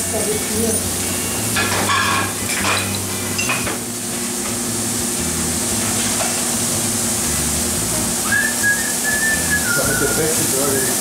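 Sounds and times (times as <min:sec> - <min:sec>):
deep-fat fryers sizzling: 0:00.0 - 0:11.0.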